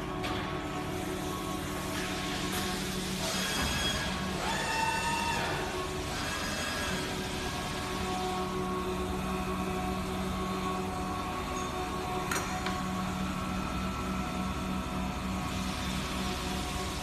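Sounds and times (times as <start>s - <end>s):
milling machine hum: 0.0s - 17.0s.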